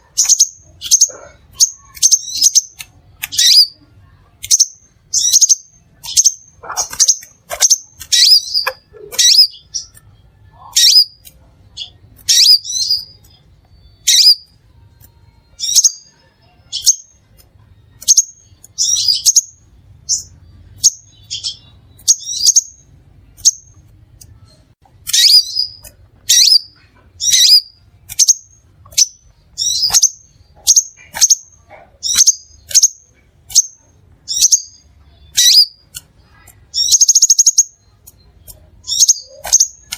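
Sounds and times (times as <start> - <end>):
bird chipping: 0.0 - 3.8, 4.4 - 14.5, 15.1 - 39.9.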